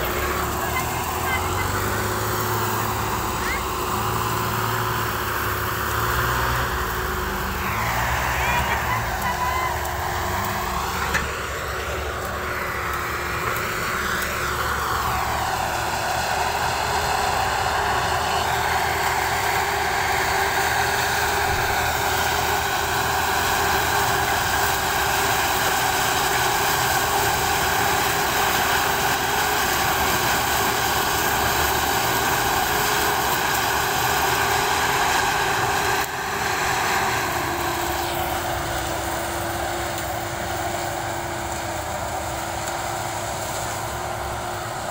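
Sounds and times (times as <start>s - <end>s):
harvester engine drone: 0.0s - 44.9s
machinery whine: 0.0s - 44.9s.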